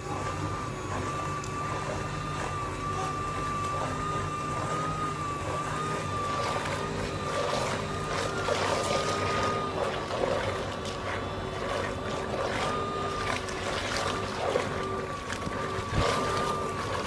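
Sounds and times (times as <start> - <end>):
small motor whining: 0.0 - 17.0
water sloshing in bucket: 0.0 - 17.0.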